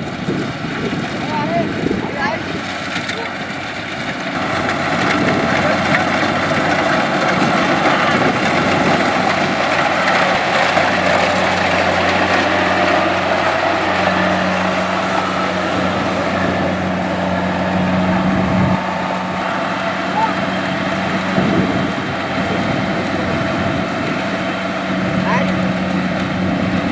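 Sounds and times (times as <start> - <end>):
diesel engine running: 0.0 - 26.9
machinery mechanical clatter: 0.1 - 26.9.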